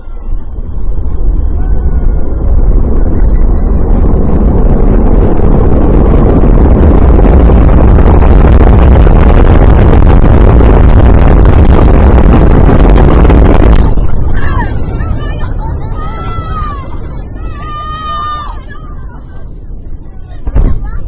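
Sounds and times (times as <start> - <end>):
rocket engine roar: 0.0 - 21.0.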